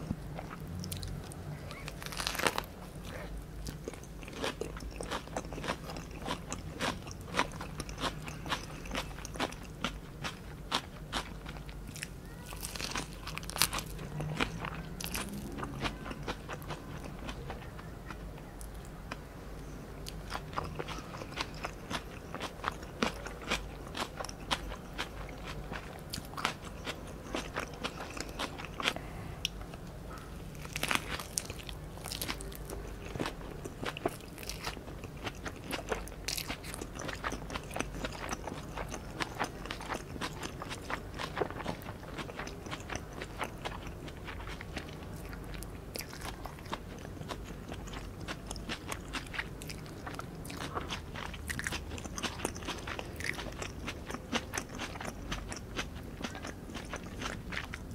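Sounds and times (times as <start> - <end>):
biting and chewing spring roll: 0.0 - 19.2, 20.0 - 57.9.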